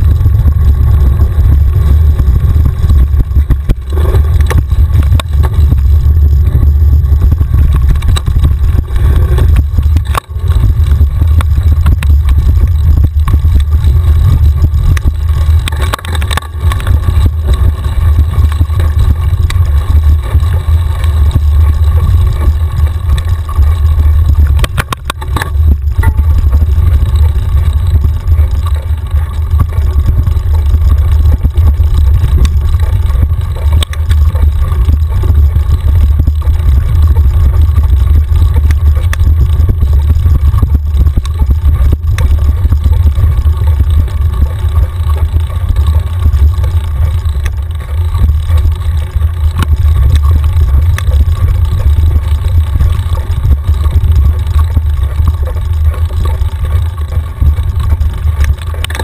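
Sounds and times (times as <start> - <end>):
bike rattling over bumps: 0.0 - 59.0
wind buffeting microphone: 0.0 - 59.0.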